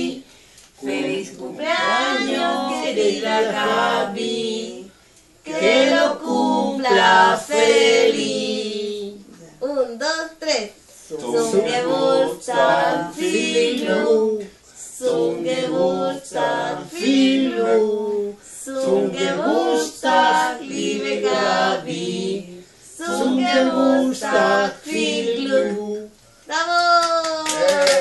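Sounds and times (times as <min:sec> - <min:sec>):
group singing a birthday song: 0:00.0 - 0:09.6, 0:10.8 - 0:26.4.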